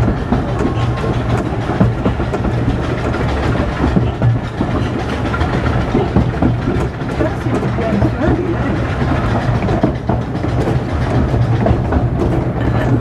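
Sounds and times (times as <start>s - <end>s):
small train rumbling on track: 0.0s - 13.0s
wheels clicking on rails: 0.0s - 13.0s.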